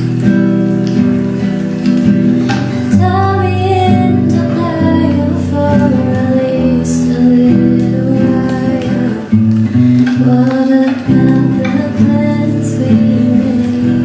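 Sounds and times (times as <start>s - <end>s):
acoustic guitar: 0.0s - 14.0s
woman singing slow song: 2.6s - 14.0s.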